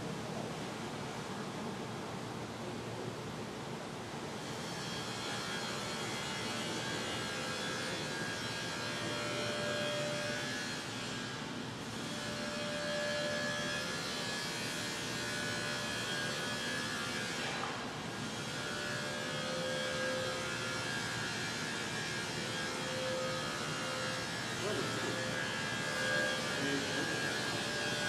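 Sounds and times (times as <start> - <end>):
electric motor humming and whirring: 5.0 - 28.0.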